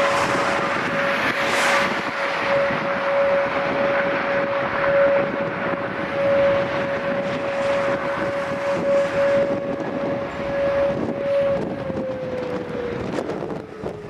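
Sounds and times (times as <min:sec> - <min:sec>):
steady rushing noise: 0:00.0 - 0:14.0
warning siren steady tone: 0:00.0 - 0:14.0.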